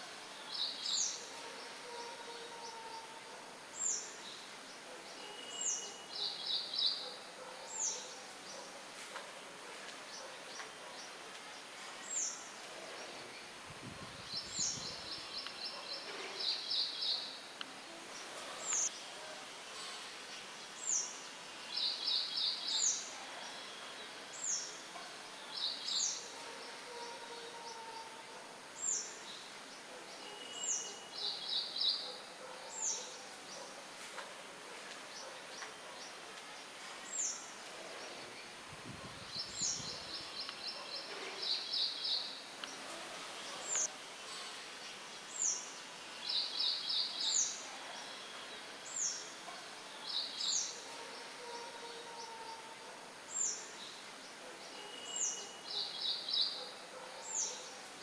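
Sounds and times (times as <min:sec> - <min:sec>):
wind through leaves: 0:00.0 - 0:58.0.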